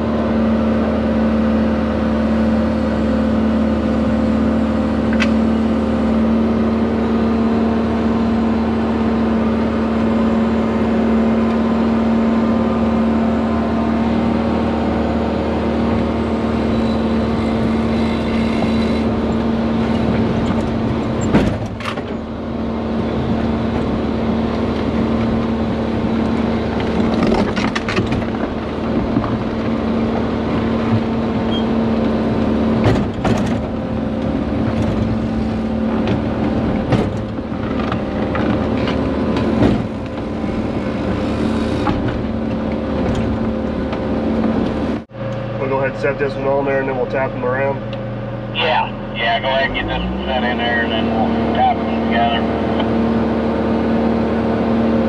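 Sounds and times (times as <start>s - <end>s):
excavator engine and hydraulics humming: 0.0s - 55.0s.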